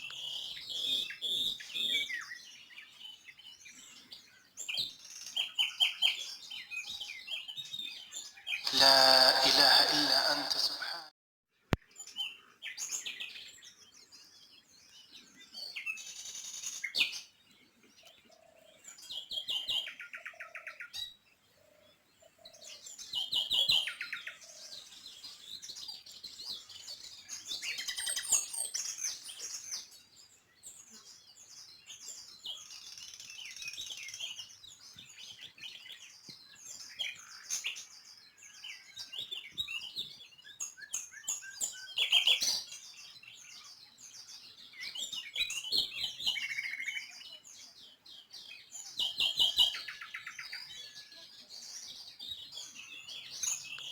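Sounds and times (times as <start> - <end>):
songbirds chirping and trilling: 0.0 - 10.8, 11.6 - 53.9.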